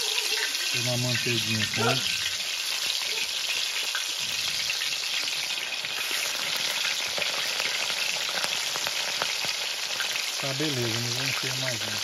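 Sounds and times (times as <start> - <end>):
fish sizzling in hot fat: 0.0 - 12.0.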